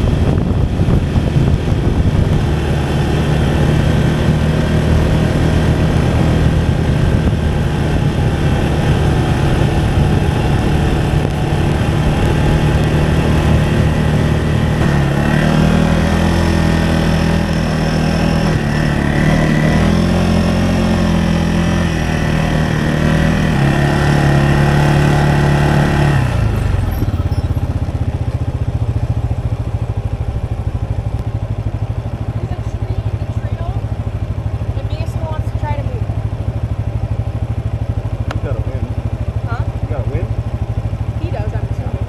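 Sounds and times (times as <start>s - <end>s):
utility vehicle engine running: 0.0s - 42.0s.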